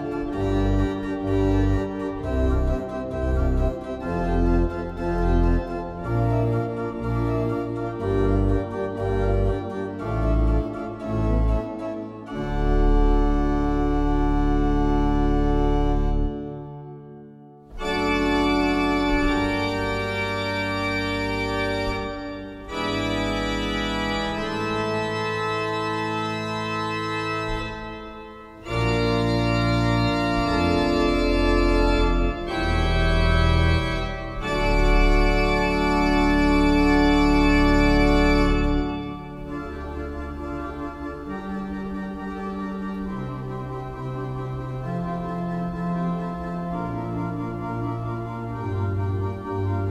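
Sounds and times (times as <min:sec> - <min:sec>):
church echo: 0:00.0 - 0:49.9
pipe organ chords: 0:00.0 - 0:49.9.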